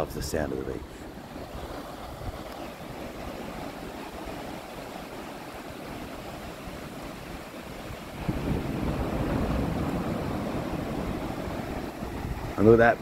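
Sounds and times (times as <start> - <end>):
small waves washing up sand: 0.0 - 13.0.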